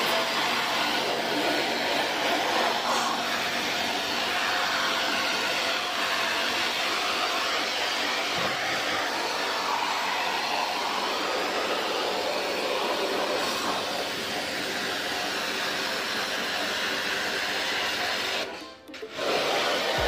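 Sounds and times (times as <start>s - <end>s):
pressure washer spraying water: 0.0s - 20.0s.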